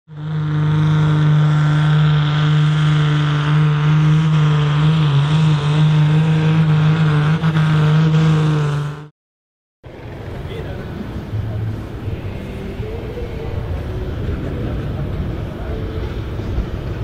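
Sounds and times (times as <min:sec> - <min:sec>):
tractor diesel engine running hard: 0:00.1 - 0:09.1, 0:09.9 - 0:17.0.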